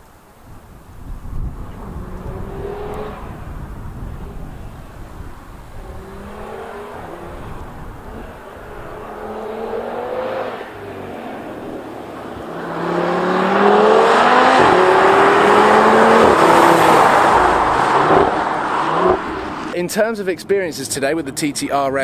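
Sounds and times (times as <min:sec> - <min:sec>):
car engine accelerating past: 0:01.5 - 0:19.8.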